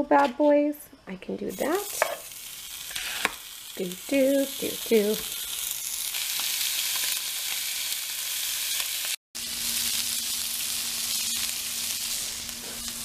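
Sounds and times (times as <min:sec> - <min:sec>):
onion sizzling: 0:01.4 - 0:13.0
meat sizzling in a pan: 0:01.5 - 0:13.0.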